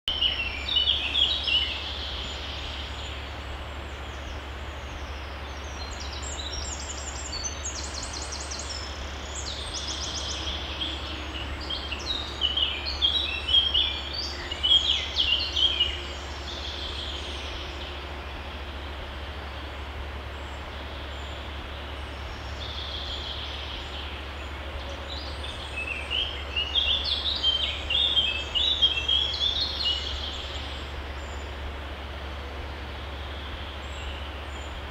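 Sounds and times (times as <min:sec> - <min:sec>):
songbirds chirping: 0:00.0 - 0:34.9
stream rushing: 0:00.1 - 0:34.9.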